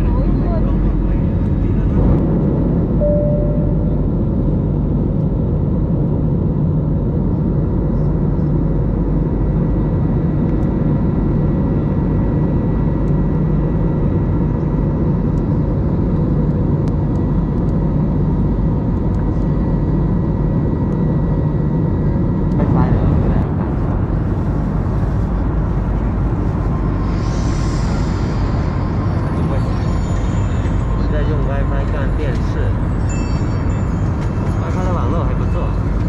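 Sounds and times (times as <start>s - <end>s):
airliner cabin drone: 0.0s - 36.0s
faint steady whine: 0.0s - 36.0s.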